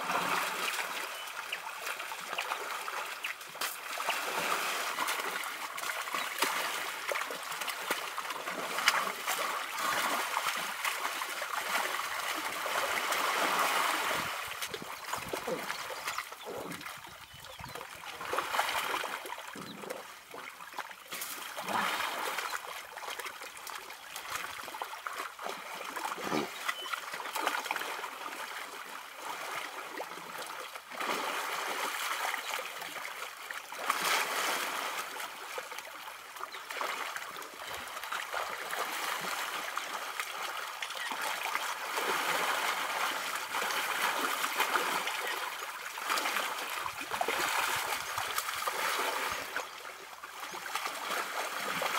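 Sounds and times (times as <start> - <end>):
mud and water sloshing: 0.0 - 51.9.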